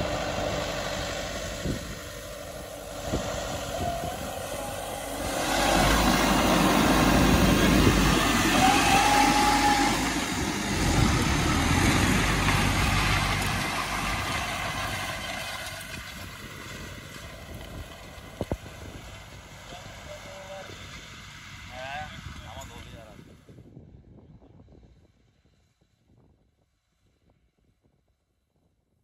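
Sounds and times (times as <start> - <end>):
tractor engine under load: 0.0 - 23.3.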